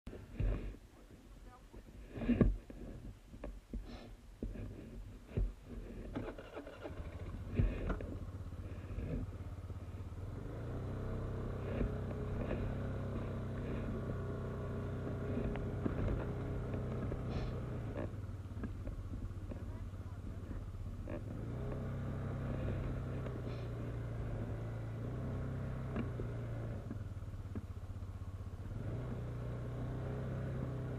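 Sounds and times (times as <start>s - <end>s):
engine humming: 0.0s - 30.9s.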